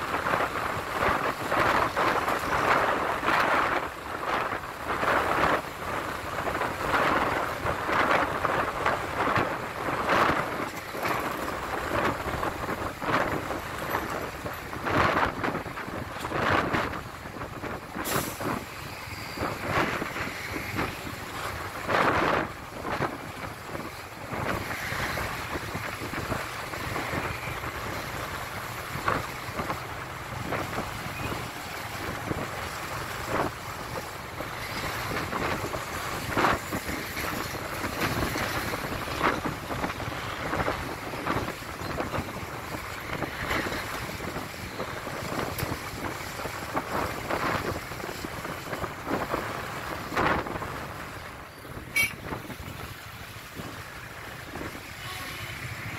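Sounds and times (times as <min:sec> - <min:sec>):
road traffic with trucks: 0:00.0 - 0:55.9
wind buffeting microphone: 0:00.0 - 0:55.9.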